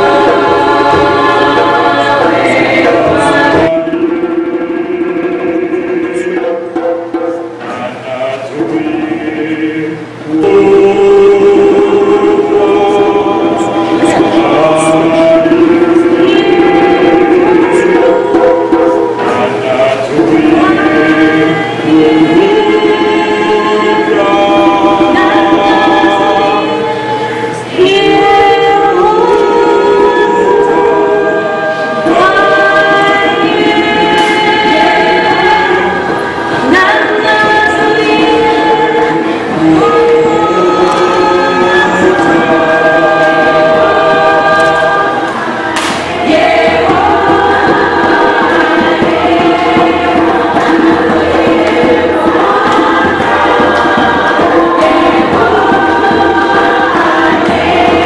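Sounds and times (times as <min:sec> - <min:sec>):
choir singing held notes: 0:00.0 - 0:58.0.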